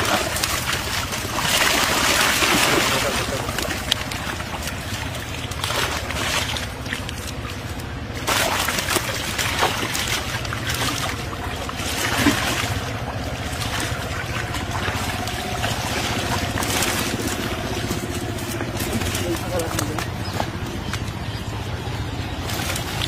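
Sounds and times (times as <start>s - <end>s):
low hum: 0.0s - 23.0s
water splashing and sloshing: 0.0s - 23.0s.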